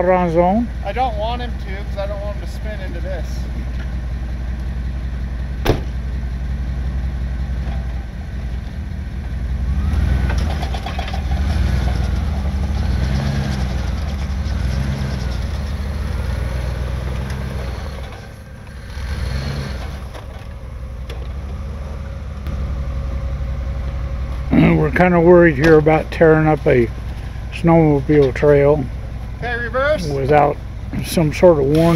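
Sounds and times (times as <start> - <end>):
engine revving: 0.0 - 31.9.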